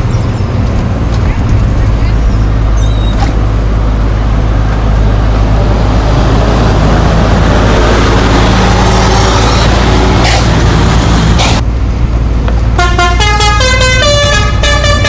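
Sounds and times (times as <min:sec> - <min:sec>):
bus engine running: 0:00.0 - 0:15.0
road rumble: 0:00.0 - 0:15.0.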